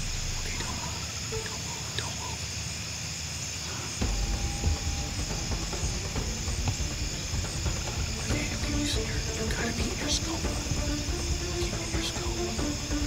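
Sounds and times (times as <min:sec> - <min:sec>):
low rumble: 0:00.0 - 0:02.0, 0:04.0 - 0:13.0
crickets and insects trilling: 0:00.0 - 0:13.0.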